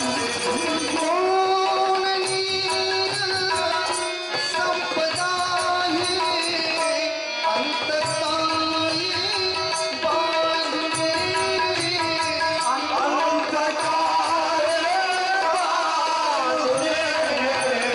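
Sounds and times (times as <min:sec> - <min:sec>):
harmonium held notes: 0:00.0 - 0:17.9
man singing: 0:00.0 - 0:17.9
tabla rhythm: 0:00.0 - 0:17.9.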